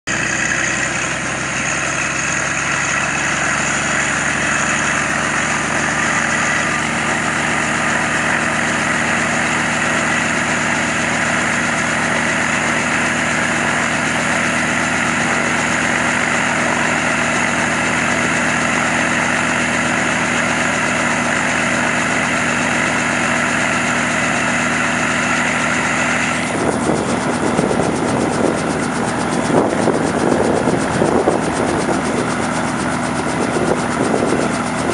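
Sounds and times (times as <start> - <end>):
helicopter turbine and rotor: 0.1 - 34.9.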